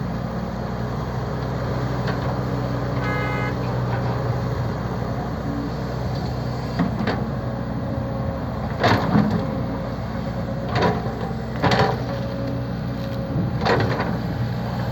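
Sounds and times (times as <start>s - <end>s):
low motor hum: 0.0s - 14.9s.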